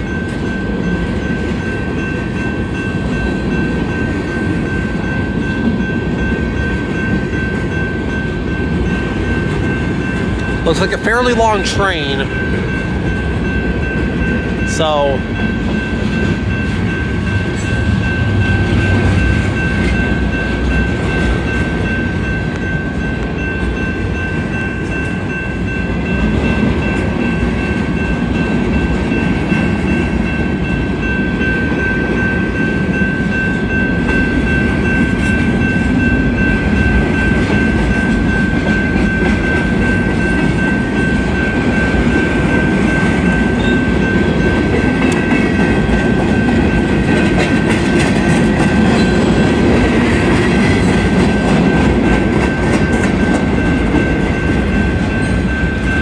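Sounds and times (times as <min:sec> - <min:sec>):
steady high-pitched tone: 0:00.0 - 0:56.0
train wheels rumbling on rail: 0:00.0 - 0:56.0.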